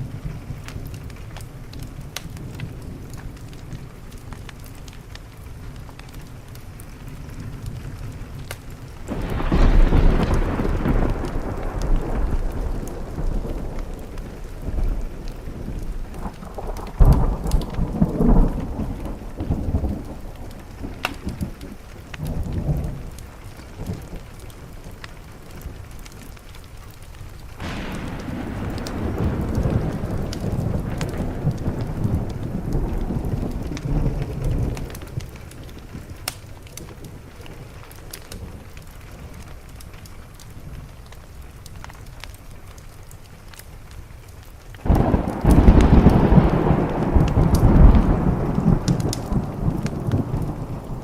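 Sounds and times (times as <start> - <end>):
rain on a window: 0.0 - 51.0
wood fire crackling: 0.0 - 51.0
thunder rumbling: 2.0 - 26.6, 27.4 - 41.4, 44.8 - 51.0.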